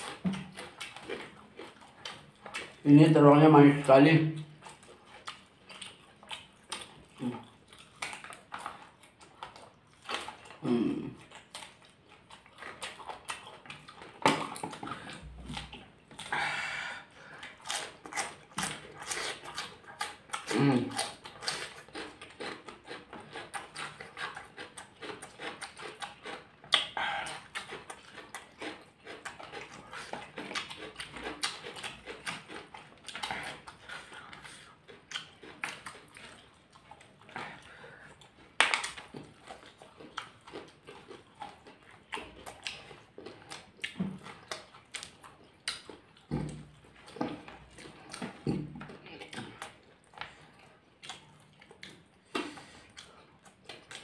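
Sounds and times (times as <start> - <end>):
chewing and mouth clicks: 0.0 - 54.0.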